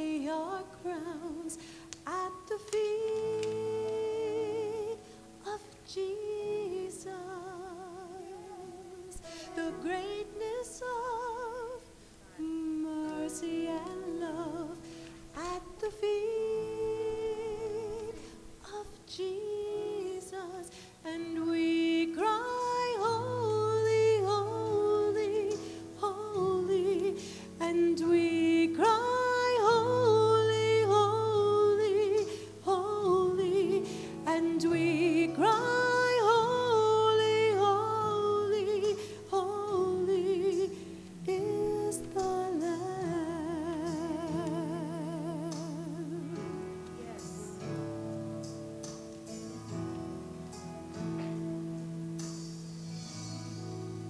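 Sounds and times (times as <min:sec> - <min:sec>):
woman singing with vibrato: 0:00.0 - 0:46.5.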